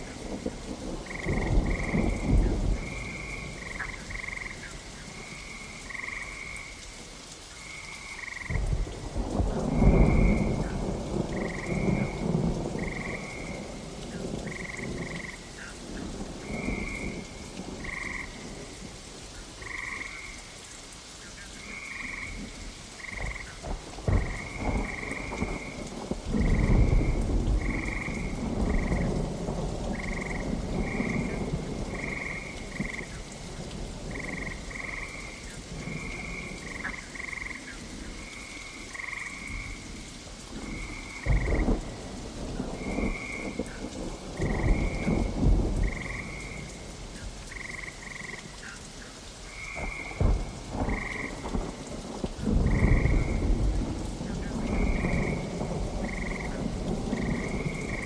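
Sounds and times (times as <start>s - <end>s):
thunder rumbling: 0.0s - 6.4s, 8.3s - 18.9s, 21.6s - 48.5s, 49.5s - 58.0s
frogs croaking: 0.0s - 58.0s
steady rain: 0.0s - 58.0s.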